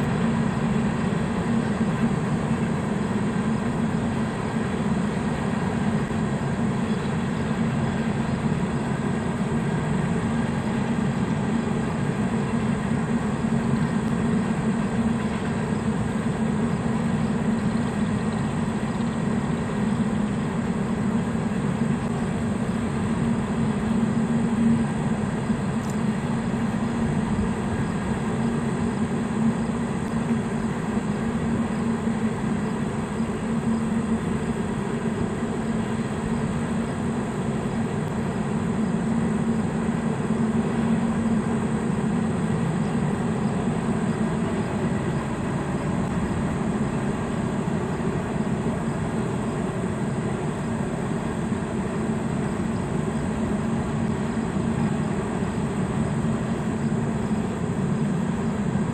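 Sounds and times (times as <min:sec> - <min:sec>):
train passing with low hum: 0:00.0 - 0:58.9.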